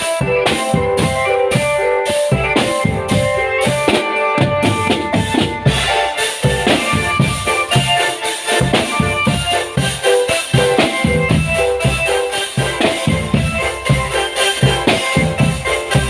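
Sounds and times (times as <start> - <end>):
marching drum band playing: 0.0 - 16.0.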